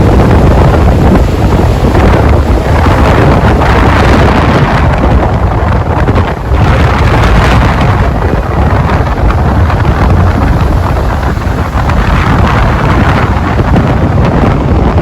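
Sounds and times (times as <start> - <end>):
waterfall rushing: 0.0 - 14.4
wind buffeting microphone: 0.0 - 15.0.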